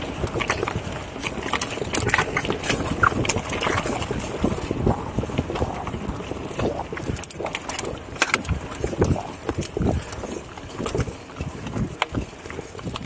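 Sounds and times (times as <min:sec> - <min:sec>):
bike rattling: 0:00.0 - 0:13.0
bike tyres on dirt and rock: 0:00.0 - 0:13.0.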